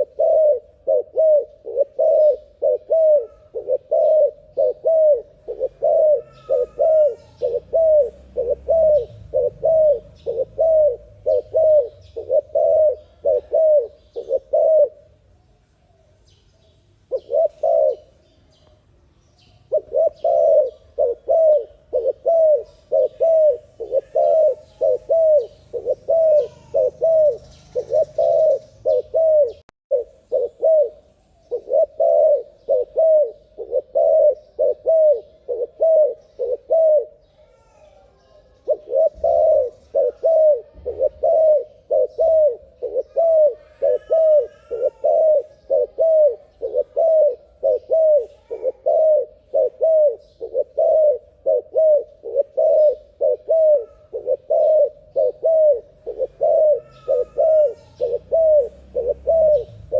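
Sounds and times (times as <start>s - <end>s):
dove cooing: 0.0s - 15.2s, 17.1s - 18.3s, 19.6s - 59.9s.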